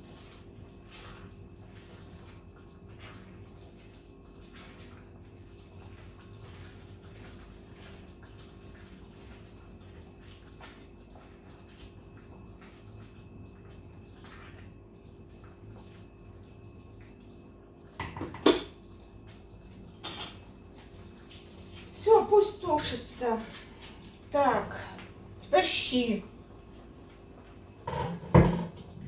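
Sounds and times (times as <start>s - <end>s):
pan simmering with bubbling pops: 0.0s - 29.0s.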